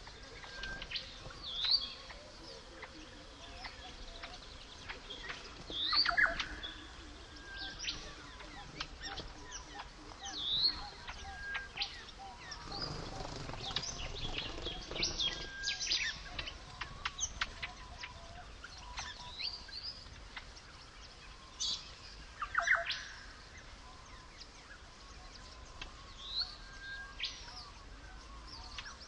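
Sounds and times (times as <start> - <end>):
birds chirping and whistling: 0.0 - 2.4, 3.2 - 29.0.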